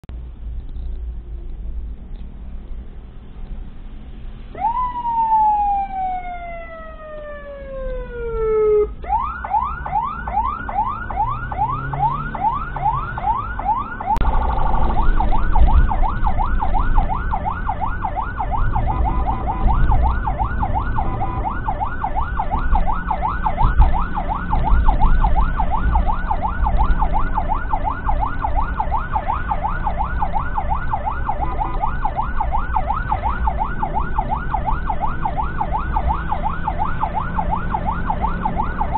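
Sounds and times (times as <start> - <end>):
engine and road rumble: 0.0 - 38.9
ambulance siren: 4.5 - 38.9.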